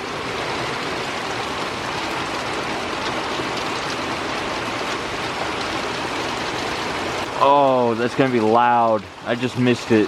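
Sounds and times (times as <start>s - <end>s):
heavy rain rushing: 0.0s - 10.0s
raindrops spattering on surfaces: 0.0s - 10.0s.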